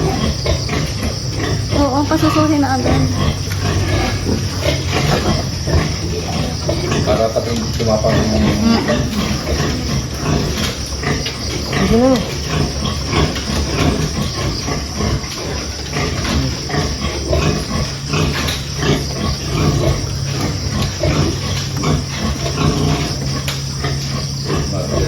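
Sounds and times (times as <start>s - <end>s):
pigs grunting and squealing: 0.0s - 25.0s
steady low hum: 0.0s - 25.0s.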